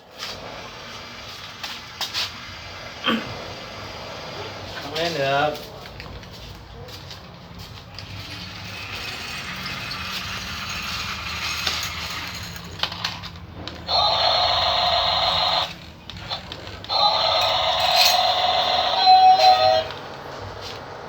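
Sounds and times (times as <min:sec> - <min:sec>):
toy excavator motors whirring: 0:00.0 - 0:21.0.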